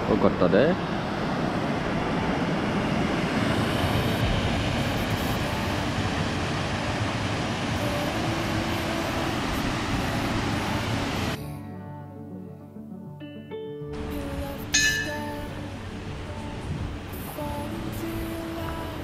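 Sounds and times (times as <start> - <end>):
waterfall rushing: 0.0 - 11.4, 14.0 - 19.0.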